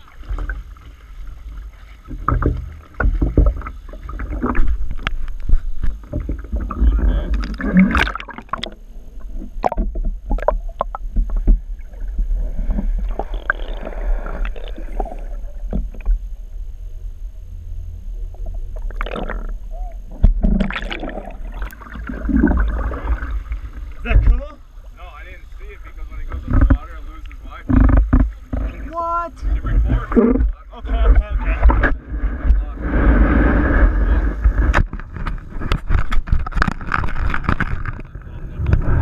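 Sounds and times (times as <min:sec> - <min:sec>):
water sloshing and splashing: 0:00.0 - 0:16.2, 0:18.4 - 0:38.3
steady low rumble: 0:00.0 - 0:39.0.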